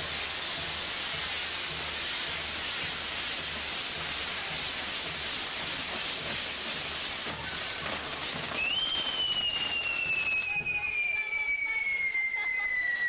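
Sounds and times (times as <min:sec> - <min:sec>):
firework wheel hissing: 0:00.0 - 0:13.0.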